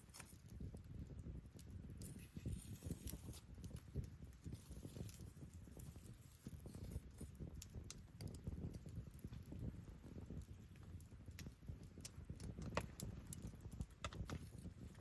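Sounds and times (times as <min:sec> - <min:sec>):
burning wood popping and snapping: 0:00.0 - 0:15.0
low rumble of flames: 0:00.0 - 0:15.0.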